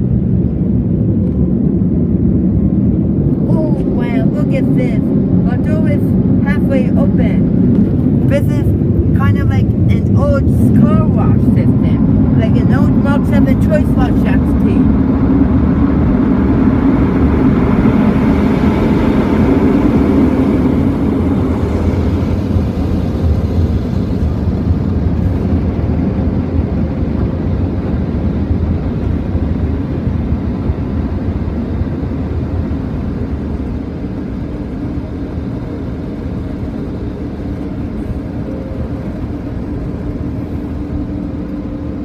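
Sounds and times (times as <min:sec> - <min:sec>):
car wash dryer blowers: 0:00.0 - 0:42.0.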